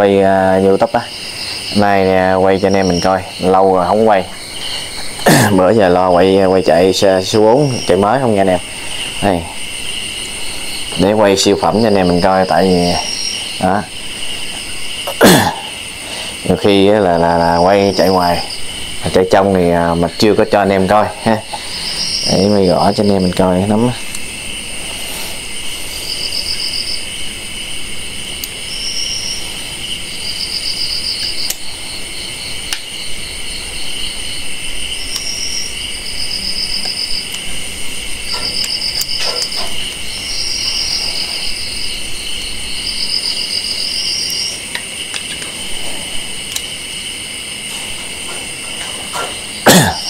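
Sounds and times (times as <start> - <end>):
insects buzzing and trilling: 0.0 - 50.0.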